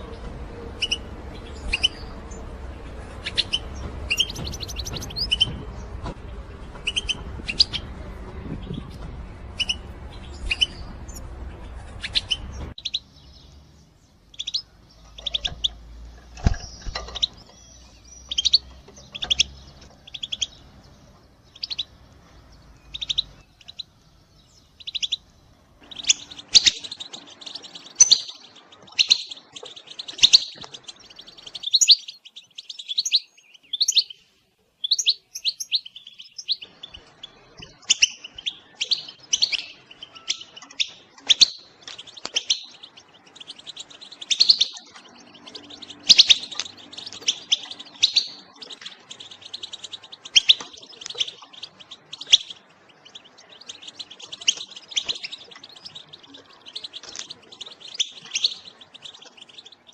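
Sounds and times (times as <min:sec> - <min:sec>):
goldfinch twittering: 0:00.8 - 0:02.5, 0:03.2 - 0:05.9, 0:06.8 - 0:07.8, 0:14.3 - 0:20.7, 0:21.4 - 0:34.2, 0:34.8 - 0:59.9.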